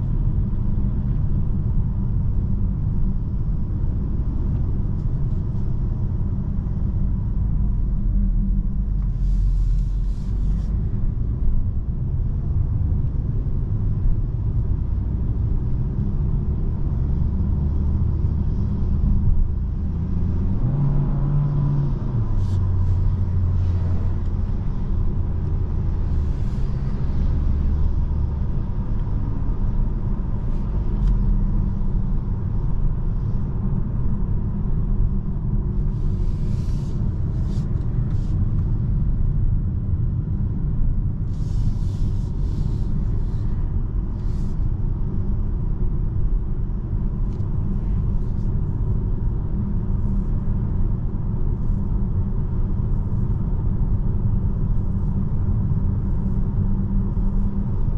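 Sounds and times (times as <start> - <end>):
car low rumble from cabin: 0.0 - 57.9.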